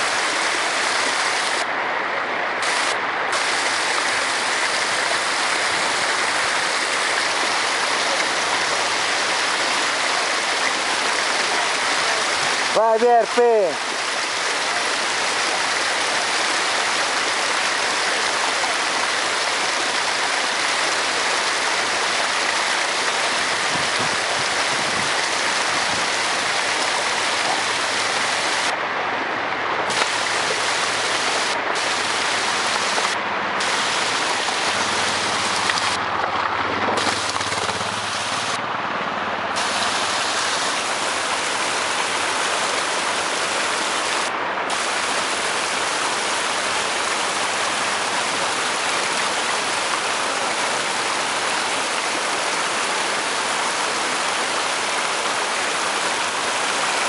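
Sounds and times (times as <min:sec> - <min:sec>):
water running over rocks: 0:00.0 - 0:28.8, 0:29.8 - 0:38.6, 0:39.5 - 0:57.0
heavy rain hissing: 0:00.0 - 0:29.0, 0:29.7 - 0:36.1, 0:36.9 - 0:38.6, 0:39.5 - 0:57.0.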